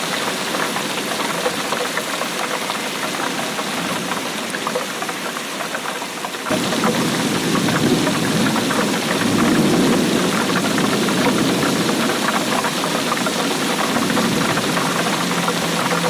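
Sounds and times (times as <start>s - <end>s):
heavy rain on hard surface: 0.0s - 16.0s.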